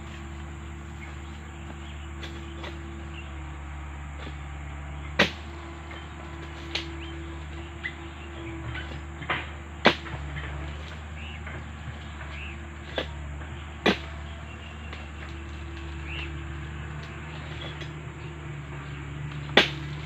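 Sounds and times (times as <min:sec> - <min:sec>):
sickle cracking into palm fronds: 0:00.0 - 0:03.2, 0:05.1 - 0:18.3, 0:19.2 - 0:20.0
steady low hum: 0:00.0 - 0:20.0.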